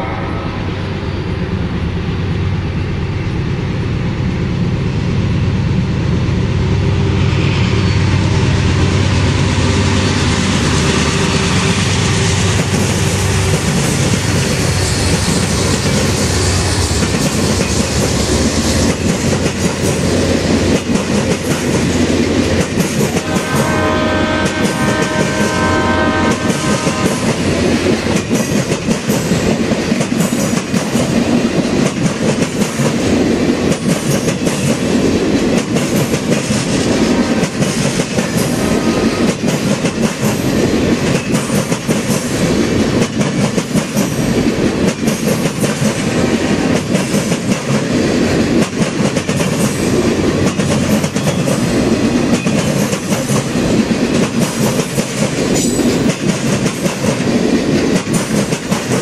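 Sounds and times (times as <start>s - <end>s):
train cars rumbling and clattering: 0.0s - 59.0s.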